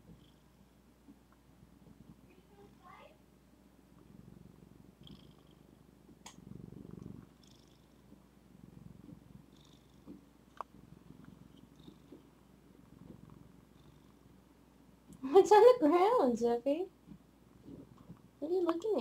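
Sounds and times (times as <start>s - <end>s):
cat purring: 0.0s - 15.9s, 16.8s - 19.0s.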